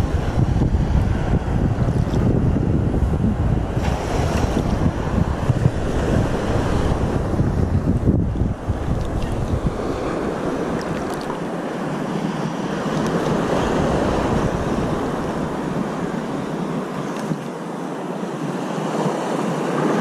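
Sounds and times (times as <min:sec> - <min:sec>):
surf washing: 0:00.0 - 0:20.0
wind buffeting the microphone: 0:00.0 - 0:20.0.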